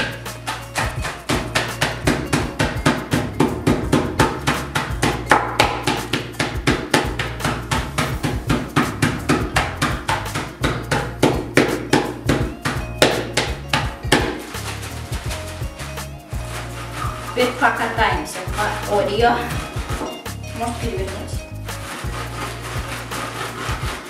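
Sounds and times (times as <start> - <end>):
rolling pin beating cookies in bag: 0.0 - 24.0.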